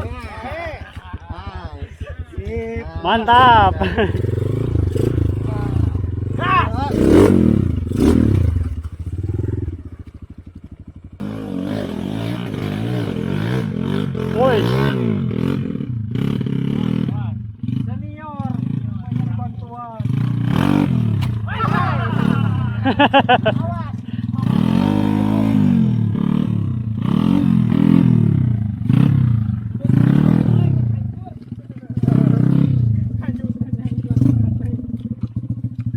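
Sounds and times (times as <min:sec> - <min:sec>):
motorcycle engine revving and idling: 0:00.0 - 0:35.9.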